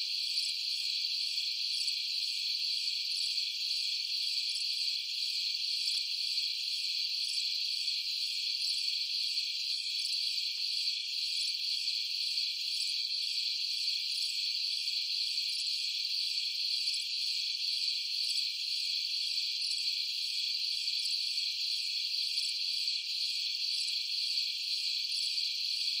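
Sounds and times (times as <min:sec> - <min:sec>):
insects trilling drone: 0:00.1 - 0:26.0.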